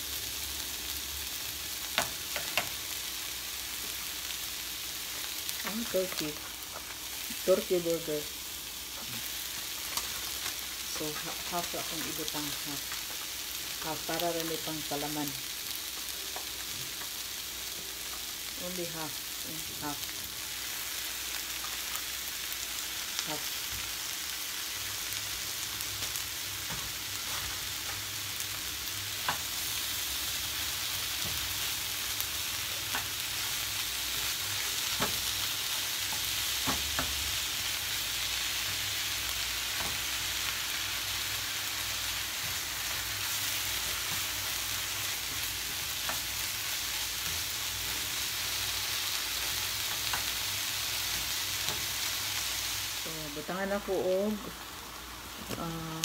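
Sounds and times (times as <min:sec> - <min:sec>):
meat and onion sizzling in a pan: 0:00.0 - 0:56.0.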